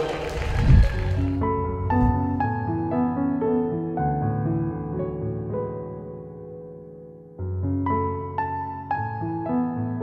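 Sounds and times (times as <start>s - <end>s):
gentle slow background music: 0.2s - 10.0s.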